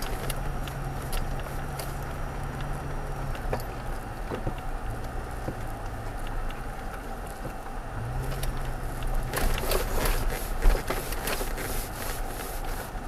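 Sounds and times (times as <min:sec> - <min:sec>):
low engine hum: 0:00.0 - 0:13.0
tyres crunching over gravel: 0:00.0 - 0:13.0.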